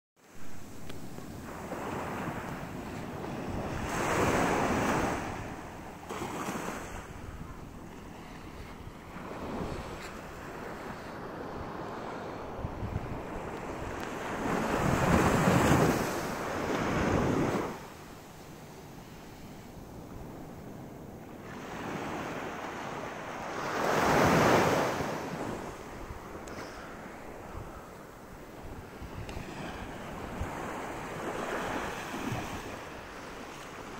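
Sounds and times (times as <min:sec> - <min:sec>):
small waves washing on beach: 0:00.2 - 0:18.2, 0:18.9 - 0:33.9
wind buffeting microphone: 0:00.4 - 0:17.9, 0:23.6 - 0:33.9.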